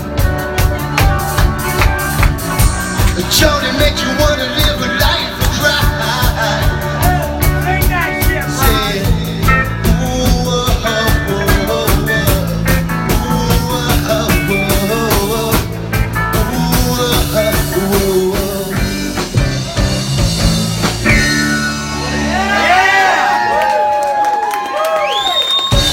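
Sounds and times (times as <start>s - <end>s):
live rock band playing: 0.0s - 25.9s.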